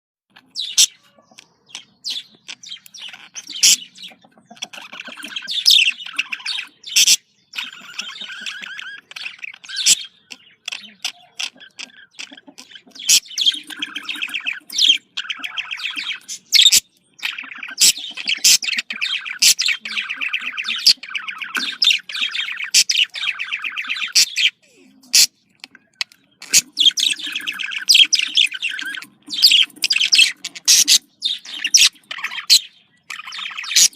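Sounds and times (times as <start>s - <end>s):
budgerigars warbling and chirping: 0.3s - 33.9s.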